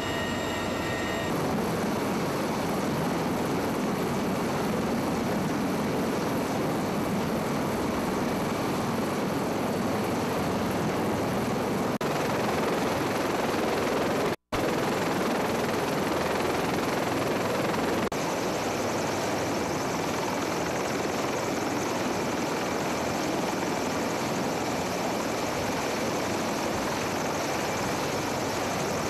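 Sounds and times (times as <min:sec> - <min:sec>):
helicopter rotor and turbine noise: 0:00.0 - 0:29.0.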